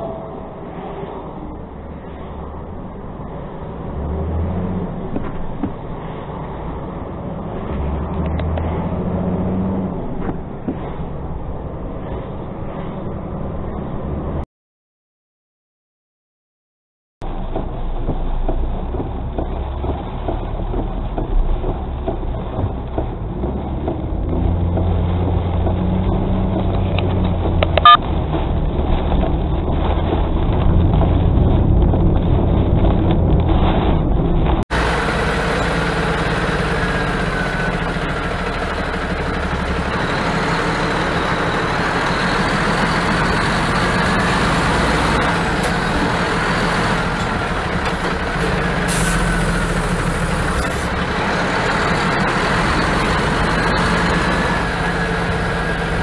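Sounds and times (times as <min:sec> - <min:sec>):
truck diesel engine: 0:00.0 - 0:14.4, 0:17.2 - 0:56.0
vehicle running noise: 0:00.0 - 0:14.4, 0:17.2 - 0:56.0.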